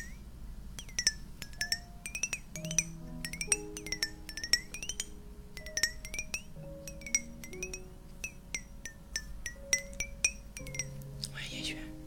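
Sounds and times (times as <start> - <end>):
fingers tapping glass bottle: 0.0 - 0.2, 0.8 - 11.3
soft background music: 0.0 - 12.0.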